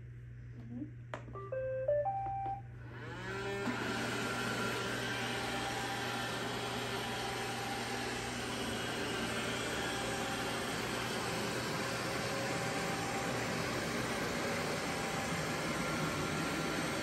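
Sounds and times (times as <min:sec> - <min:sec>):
robot vacuum cleaners whirring: 0:02.9 - 0:17.0.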